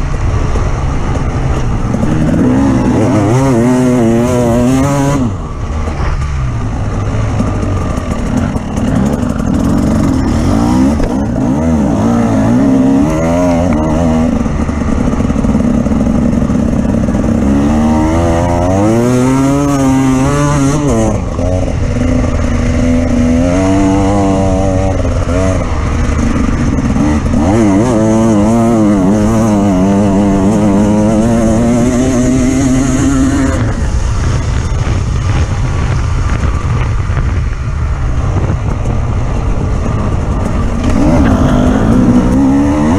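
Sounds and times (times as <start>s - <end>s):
vehicle engine revving: 0.0s - 42.9s.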